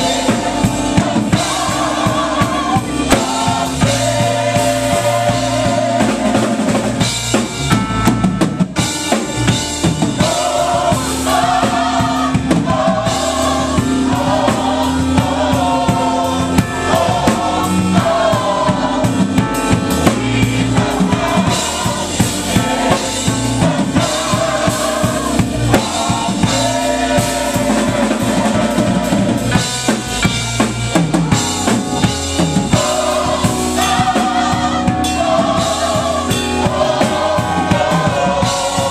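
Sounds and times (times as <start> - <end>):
drum kit beat: 0.0 - 38.9.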